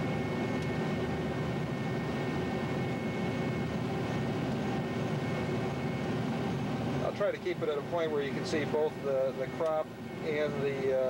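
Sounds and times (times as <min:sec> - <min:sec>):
combine harvester drone: 0:00.0 - 0:11.0.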